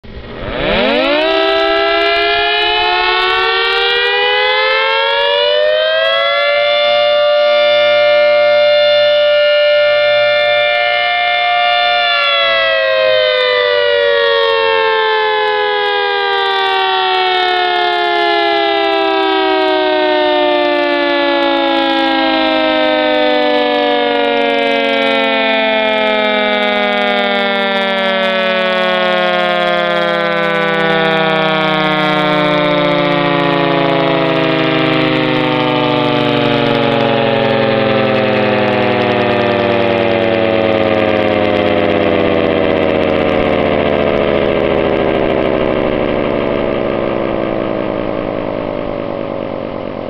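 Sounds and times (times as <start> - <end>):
civil defense siren wailing: 0.0 - 50.0.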